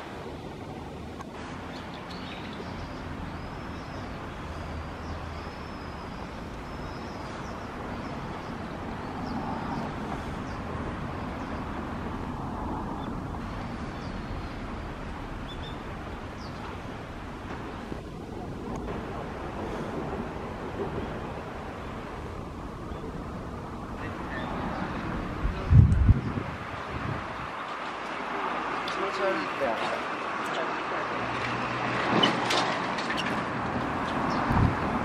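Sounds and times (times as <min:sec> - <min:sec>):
outdoor rushing noise: 0:00.0 - 0:35.0.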